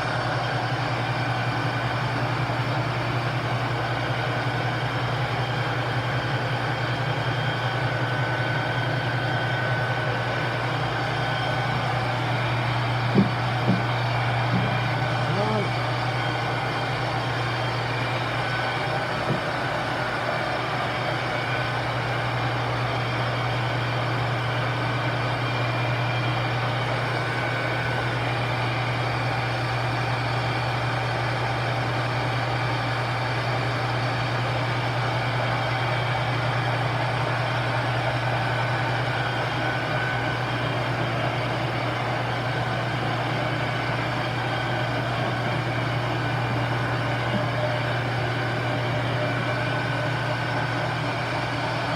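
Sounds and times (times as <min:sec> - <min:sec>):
metal lathe humming: 0:00.0 - 0:51.9.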